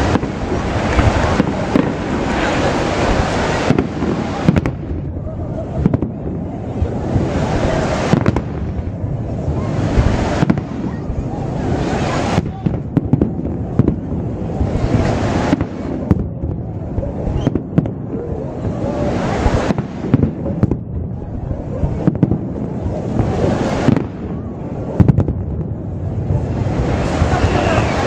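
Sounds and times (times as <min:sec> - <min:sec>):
continuous low rumble: 0:00.0 - 0:28.0
fireworks bangs and crackles: 0:00.0 - 0:28.0.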